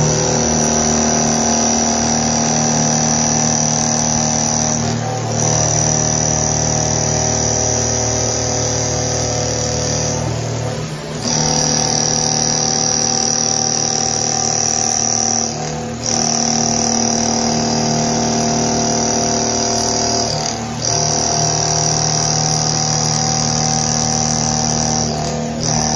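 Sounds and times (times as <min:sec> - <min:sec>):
milling machine cutting steel: 0:00.0 - 0:25.9.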